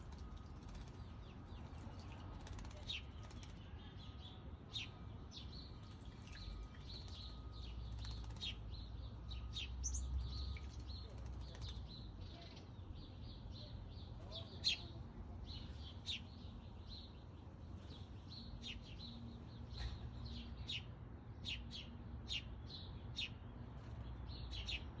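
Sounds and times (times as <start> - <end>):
small songbird chirping: 0.0 - 25.0.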